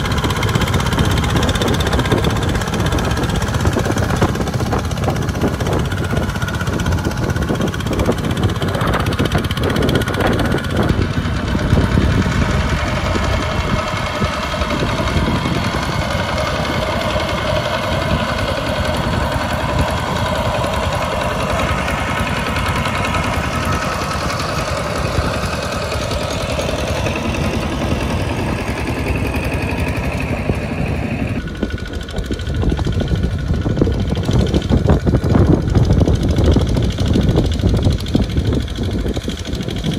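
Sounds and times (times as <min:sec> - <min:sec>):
diesel tractor engines chugging: 0:00.0 - 0:39.9.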